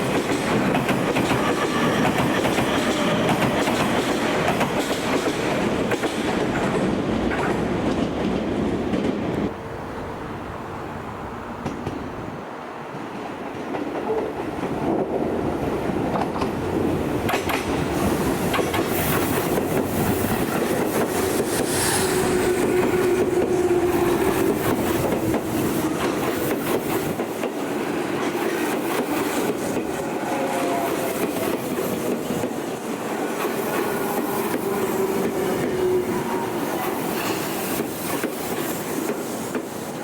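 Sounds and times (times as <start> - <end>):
train rumble: 0.0 - 40.0.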